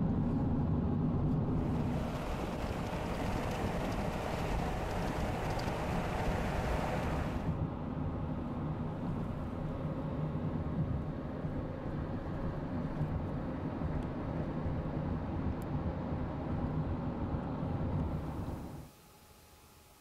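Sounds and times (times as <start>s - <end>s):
road and engine rumble inside car: 0.0s - 18.9s.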